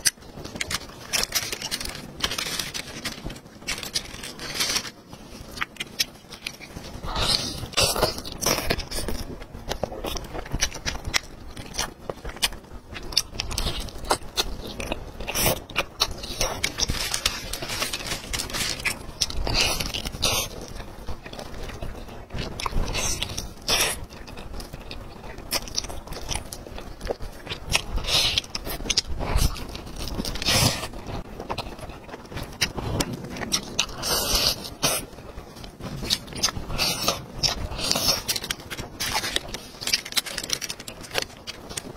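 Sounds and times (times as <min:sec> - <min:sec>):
person chewing chicken: 0:00.0 - 0:41.9.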